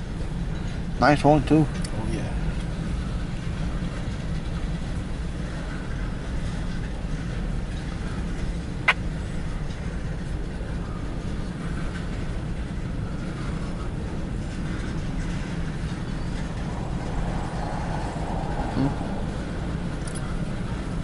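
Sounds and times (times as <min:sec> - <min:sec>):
train cars rolling past: 0:00.0 - 0:21.0.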